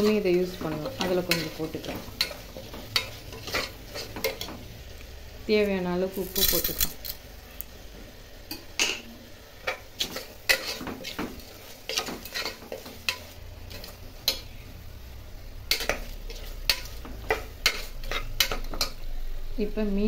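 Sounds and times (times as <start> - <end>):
masala sizzling in oil: 0.0 - 20.0.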